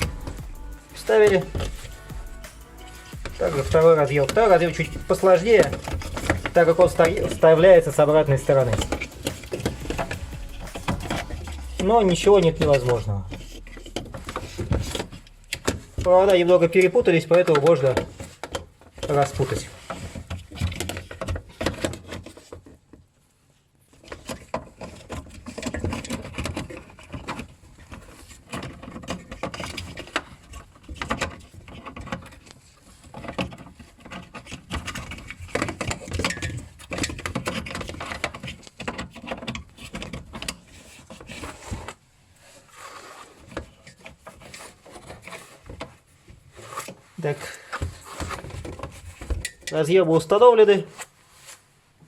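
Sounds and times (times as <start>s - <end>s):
wiring rustling and rubbing: 0.0s - 52.0s.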